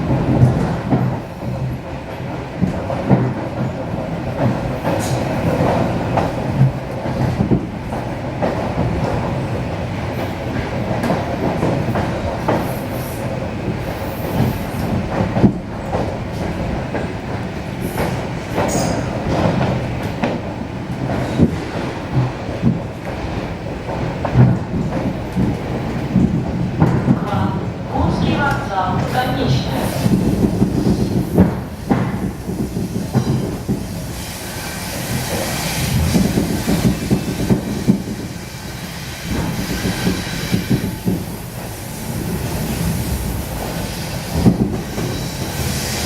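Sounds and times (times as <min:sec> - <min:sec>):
train rumble: 0:00.0 - 0:46.0
wheels clacking over rail joints: 0:00.0 - 0:46.0.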